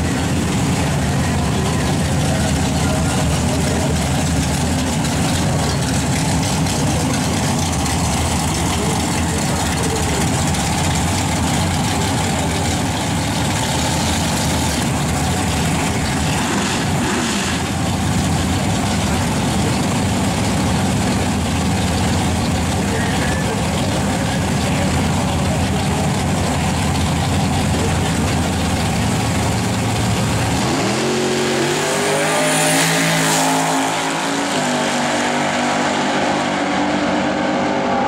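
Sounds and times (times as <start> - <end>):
pickup engine idling: 0.0 - 32.2.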